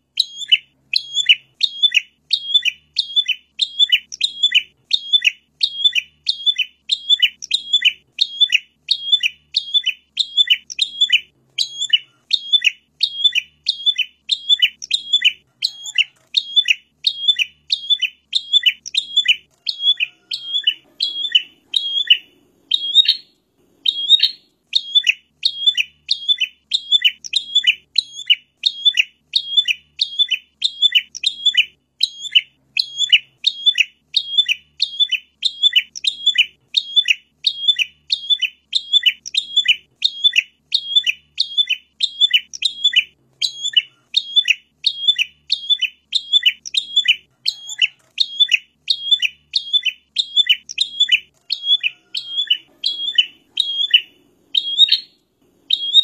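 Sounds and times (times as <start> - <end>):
songbird sharp high chirps: 0.0 - 56.0.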